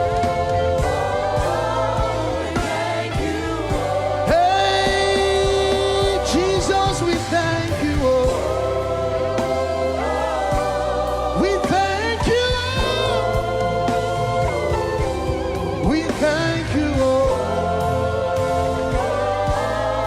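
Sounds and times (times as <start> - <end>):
band with low bass: 0.0 - 20.0
voices singing gospel: 0.0 - 20.0.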